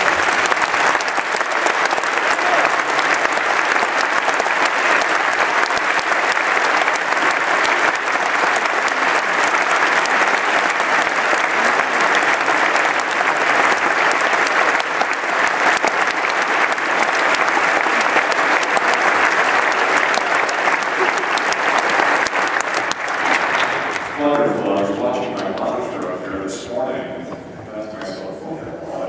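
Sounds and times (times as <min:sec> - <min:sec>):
crowd applauding: 0:00.0 - 0:26.2.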